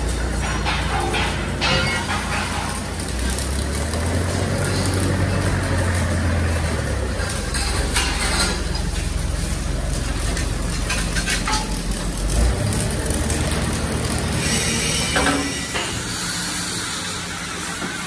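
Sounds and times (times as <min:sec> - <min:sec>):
arc welding crackling hiss: 0:00.0 - 0:18.0.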